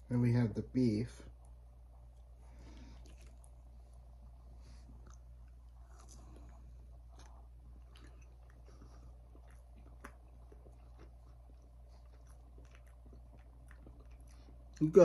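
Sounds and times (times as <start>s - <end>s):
low steady hum: 0.0s - 15.0s
faint chewing mouth clicks: 1.4s - 3.7s, 4.8s - 14.9s.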